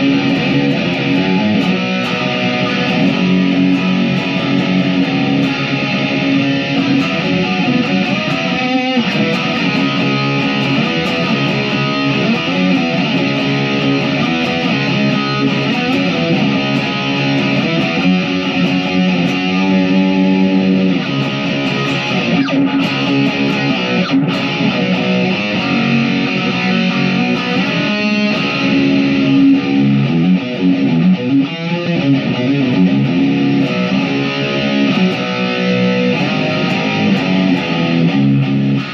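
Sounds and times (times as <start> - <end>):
electric guitar chords and riffs: 0.0 - 38.9.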